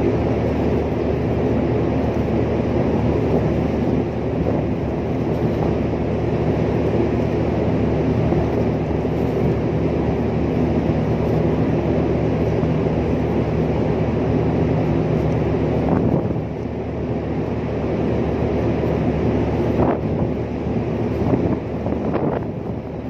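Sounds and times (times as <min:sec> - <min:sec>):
ship machinery drone: 0:00.0 - 0:23.0.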